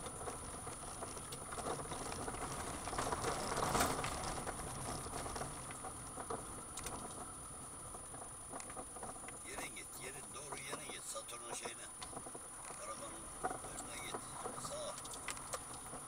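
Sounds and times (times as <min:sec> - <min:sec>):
tyre noise on dirt track: 0:00.0 - 0:16.0
vehicle rattling and knocks: 0:00.0 - 0:16.0.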